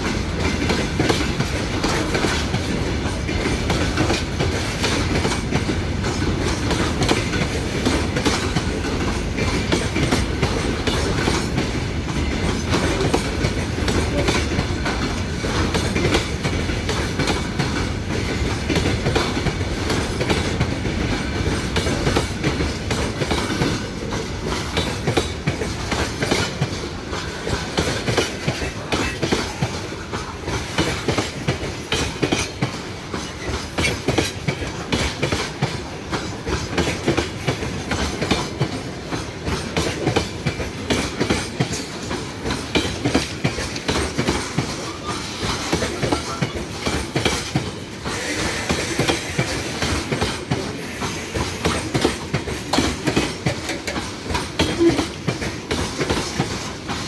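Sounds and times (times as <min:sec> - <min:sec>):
train rolling past: 0:00.0 - 0:57.0
wheels clicking over rail joints: 0:00.0 - 0:57.0.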